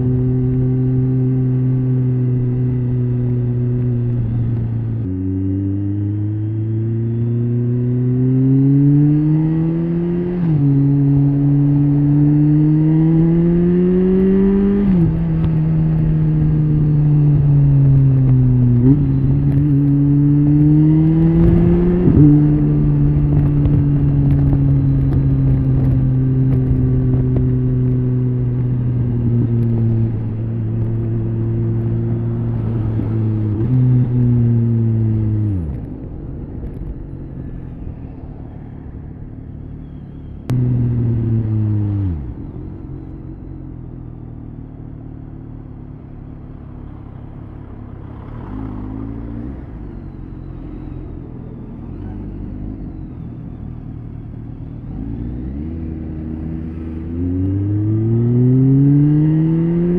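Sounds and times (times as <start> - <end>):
motorcycle engine shifting gears: 0.0 - 59.9.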